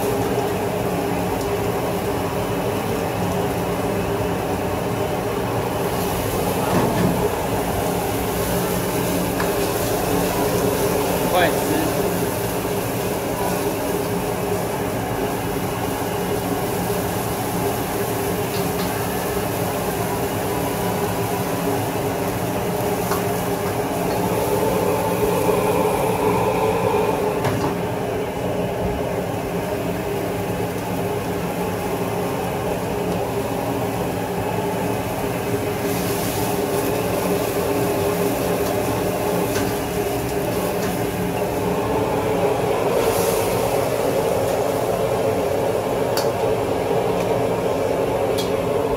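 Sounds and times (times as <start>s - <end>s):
food sizzling in a wok: 0.0s - 48.6s
gas burner and exhaust fan: 0.0s - 48.9s.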